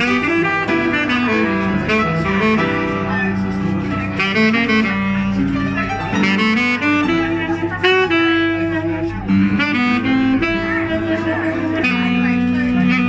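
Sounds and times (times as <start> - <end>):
piano chords: 0.0 - 13.0
saxophone melody: 0.0 - 13.0.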